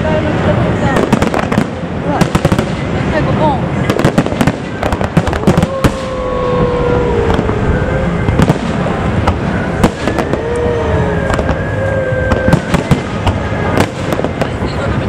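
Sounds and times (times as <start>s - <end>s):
continuous rumble: 0.0s - 15.0s
fireworks bangs and crackling: 0.0s - 15.0s
fireworks whistling: 0.0s - 15.0s.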